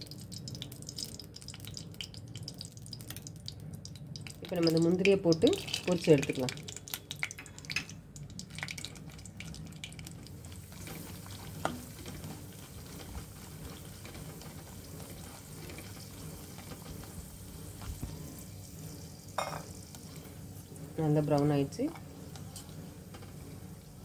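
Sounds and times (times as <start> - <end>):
nuts sizzling in fat: 0.0 - 24.0.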